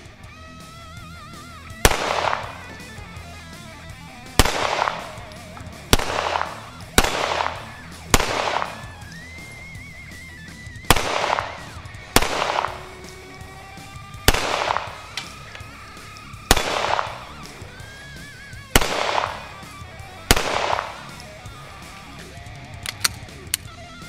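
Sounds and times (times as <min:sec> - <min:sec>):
background music: 0:00.0 - 0:24.0
pistol shots echoing: 0:01.3 - 0:23.5.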